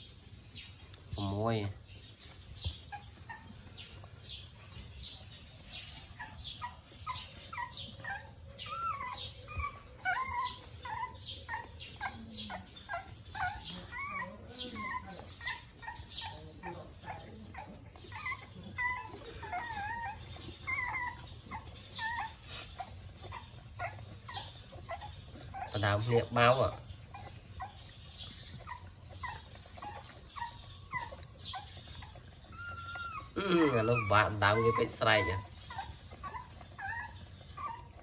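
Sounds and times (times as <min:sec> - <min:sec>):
puppies whimpering and squeaking: 0:00.0 - 0:38.0.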